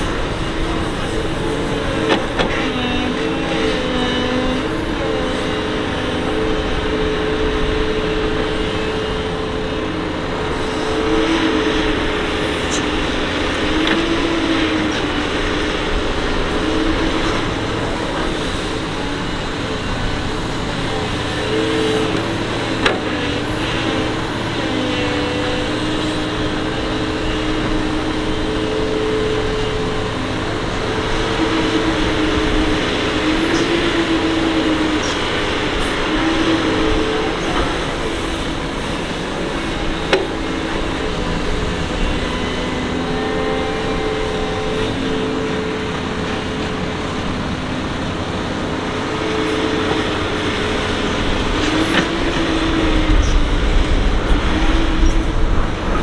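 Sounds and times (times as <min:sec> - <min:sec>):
excavator diesel engine and hydraulics: 0:00.0 - 0:56.0.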